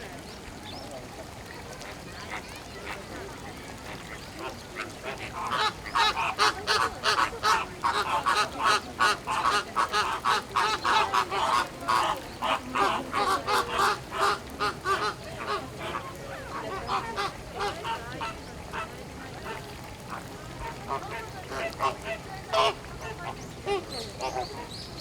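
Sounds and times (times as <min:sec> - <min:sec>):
flamingos honking: 0:03.9 - 0:24.9.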